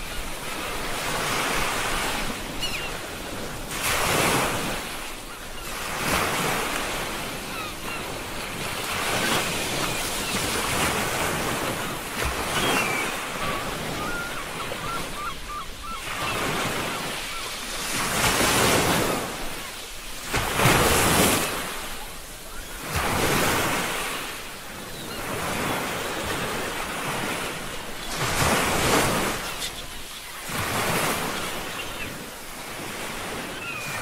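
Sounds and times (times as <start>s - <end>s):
ocean waves washing: 0.0s - 34.0s.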